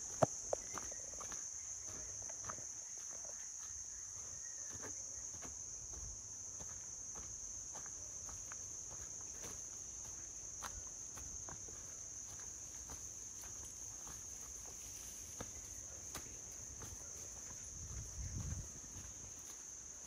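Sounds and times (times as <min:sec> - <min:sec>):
footsteps on leafy dirt path: 0:00.0 - 0:20.0
insect chorus: 0:00.0 - 0:20.0.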